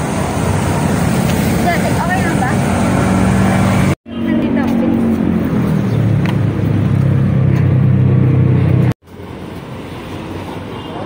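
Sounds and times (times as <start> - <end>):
street traffic noise: 0.0 - 11.0
vehicle engine humming: 0.0 - 11.0.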